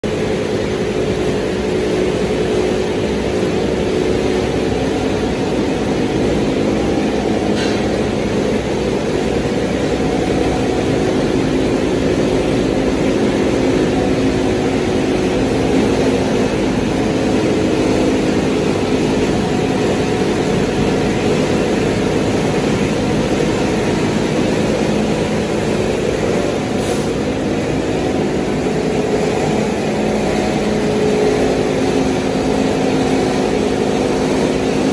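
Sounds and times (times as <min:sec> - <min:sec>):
wire granulator machine running: 0:00.1 - 0:34.9.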